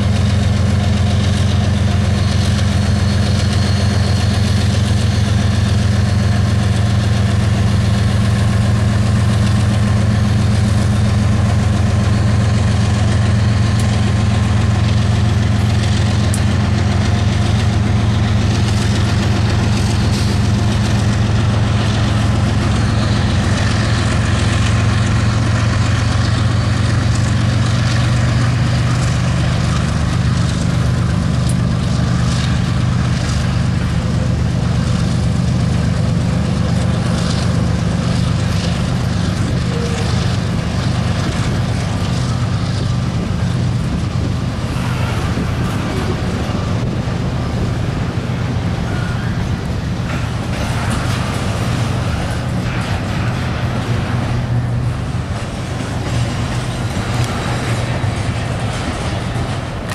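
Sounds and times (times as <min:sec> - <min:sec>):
diesel locomotives idling: 0:00.0 - 0:59.9.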